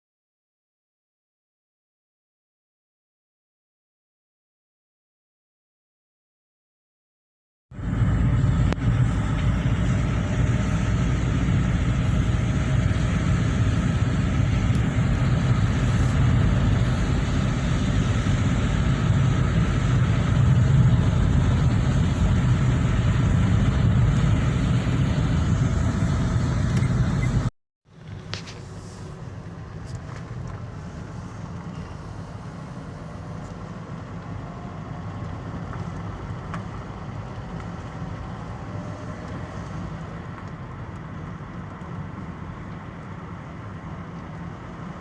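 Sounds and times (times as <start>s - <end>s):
motor vehicle rumbling: 7.7s - 45.0s.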